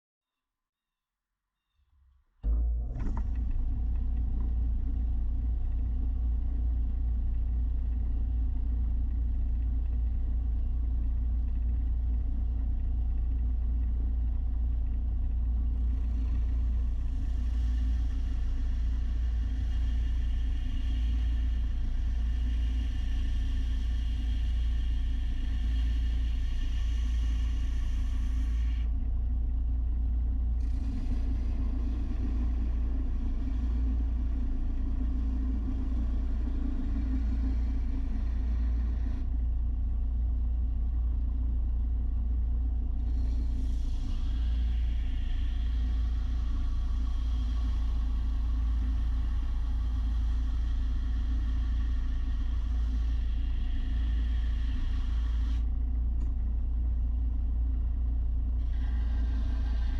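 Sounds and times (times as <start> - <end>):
motor-driven machine rumbling: 2.4 - 59.9.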